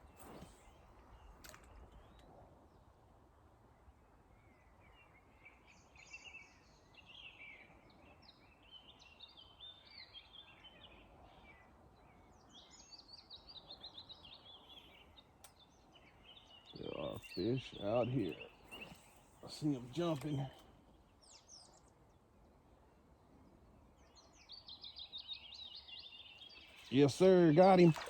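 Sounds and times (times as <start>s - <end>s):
songbird chirping: 3.7s - 28.0s.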